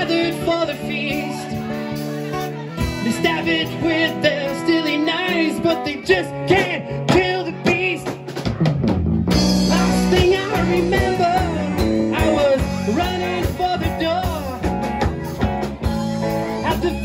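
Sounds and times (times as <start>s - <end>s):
person singing: 0.0s - 8.4s, 9.4s - 15.5s, 16.5s - 17.0s
rock band playing: 0.0s - 17.0s.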